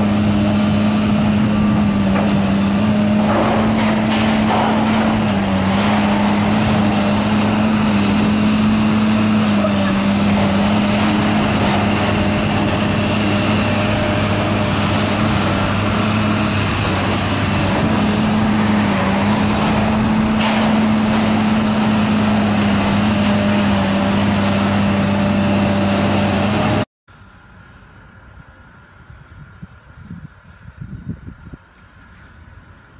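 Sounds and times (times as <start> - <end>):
excavator diesel engine droning: 0.0 - 27.9.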